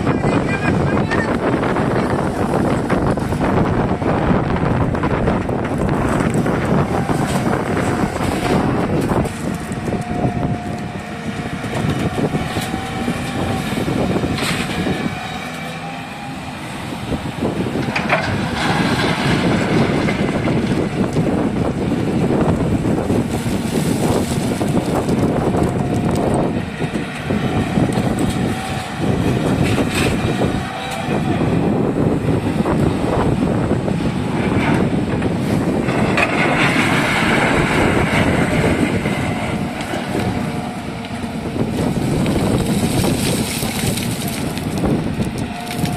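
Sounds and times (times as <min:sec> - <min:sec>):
excavator diesel engine running: 0:00.0 - 0:45.9
hydraulic whine: 0:00.6 - 0:45.9.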